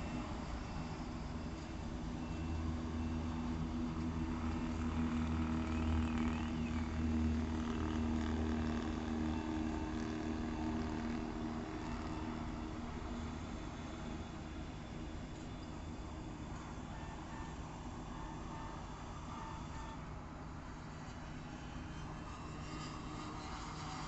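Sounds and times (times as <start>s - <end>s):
heavy diesel crane engines running: 0.0s - 24.0s.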